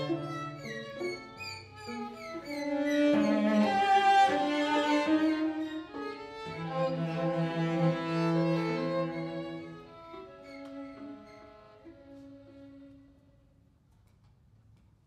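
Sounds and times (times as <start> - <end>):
string quartet playing: 0.0 - 13.3.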